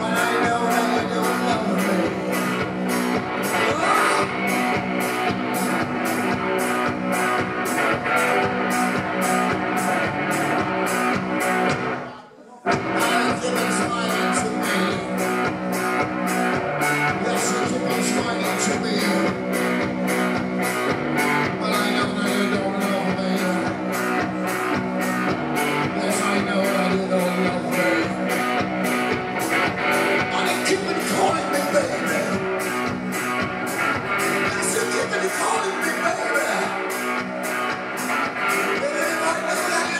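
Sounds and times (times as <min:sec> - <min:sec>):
drum kit beat: 0:00.0 - 0:12.0, 0:12.7 - 0:39.9
electric guitar: 0:00.0 - 0:12.1, 0:12.7 - 0:39.9
rock and roll band playing: 0:00.0 - 0:39.9.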